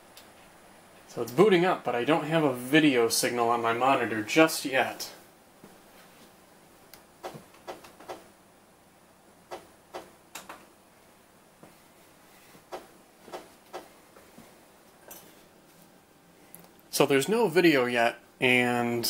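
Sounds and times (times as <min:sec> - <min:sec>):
faint steady laptop whir: 0:00.0 - 0:19.0.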